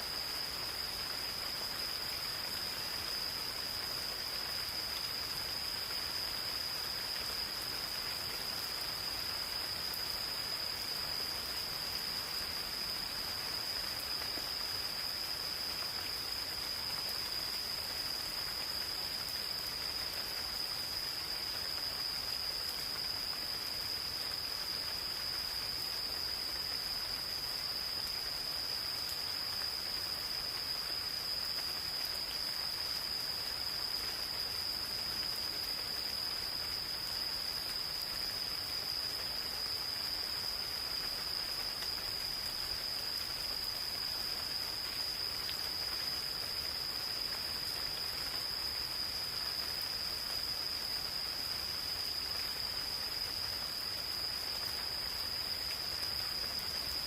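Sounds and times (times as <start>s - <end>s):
gentle rain patter: 0.0s - 57.0s.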